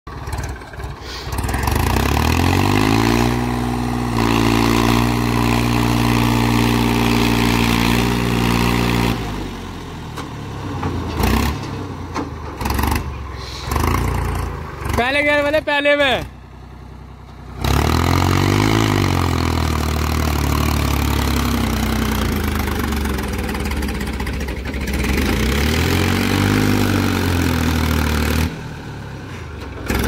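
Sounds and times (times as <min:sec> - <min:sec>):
tractor engine revving: 0:00.1 - 0:30.0.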